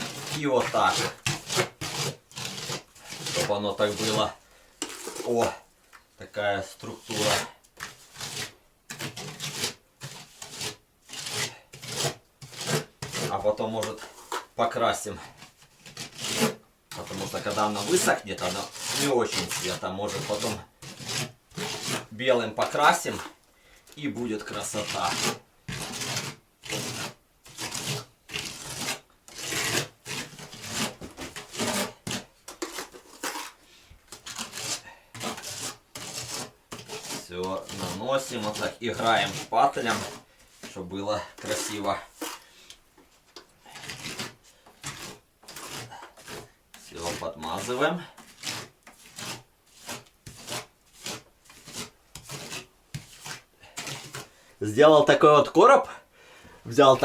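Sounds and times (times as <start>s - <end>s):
spatula scraping plaster: 0.0s - 55.6s, 56.7s - 57.0s.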